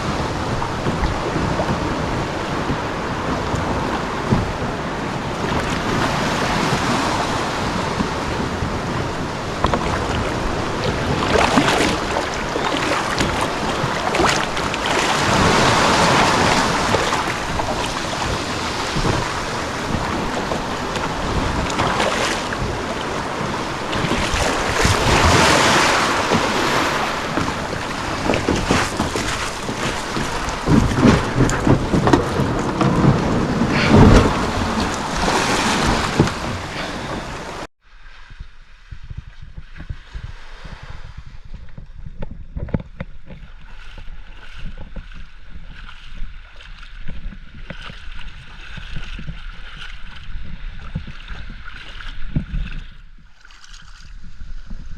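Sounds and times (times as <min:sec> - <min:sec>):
low bumps: 0:00.0 - 0:53.3
water splashing against a hull: 0:00.0 - 0:54.9
wind buffeting microphone: 0:00.0 - 0:54.9.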